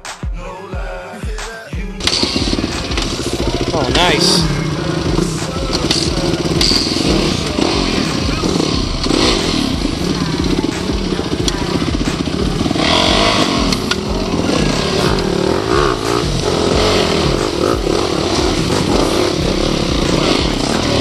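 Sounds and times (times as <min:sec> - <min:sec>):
motorcycle engine revving: 0:01.9 - 0:21.0.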